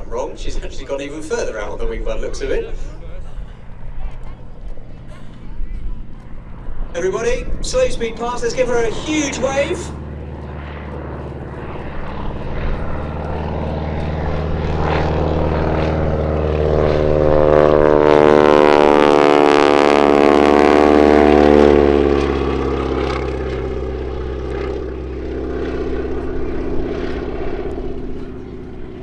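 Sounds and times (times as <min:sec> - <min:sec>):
propeller plane engine drone: 0:00.0 - 0:29.0.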